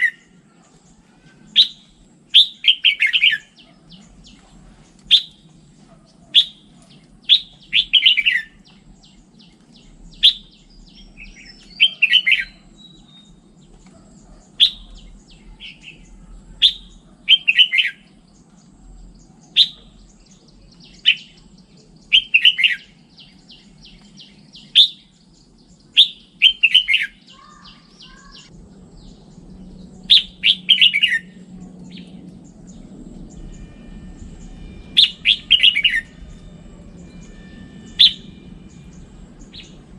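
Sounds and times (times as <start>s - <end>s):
faint low hum: 0.0s - 26.0s, 27.2s - 39.9s
bird singing: 0.0s - 39.9s.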